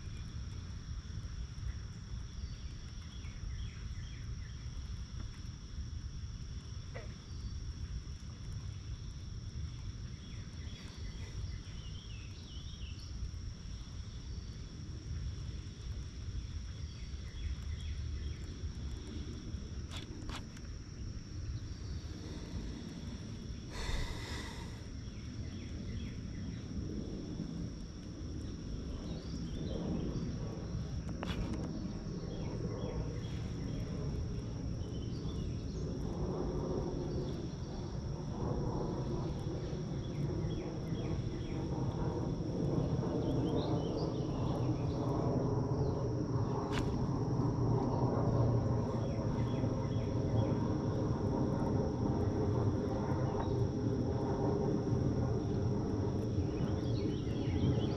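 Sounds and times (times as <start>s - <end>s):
insects trilling: 0.0s - 57.9s
low rumble: 3.8s - 57.9s.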